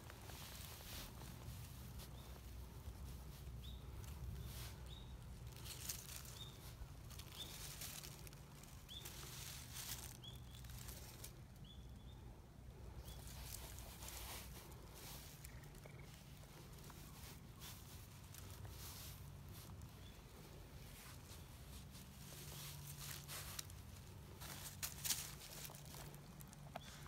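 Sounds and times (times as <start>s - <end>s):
dry leaves rustling and crackling: 0.0s - 27.0s
small bird chirping: 0.3s - 27.0s.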